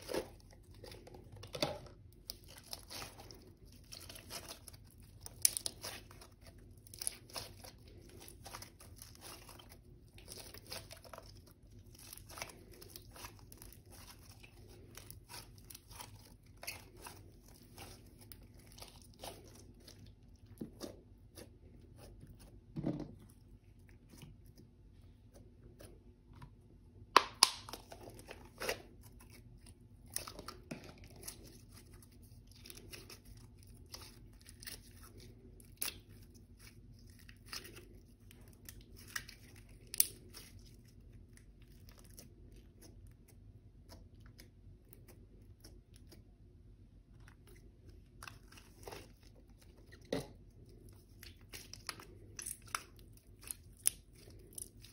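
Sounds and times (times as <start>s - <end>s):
slime crinkling and crackling: 0.0s - 26.0s, 27.3s - 54.9s.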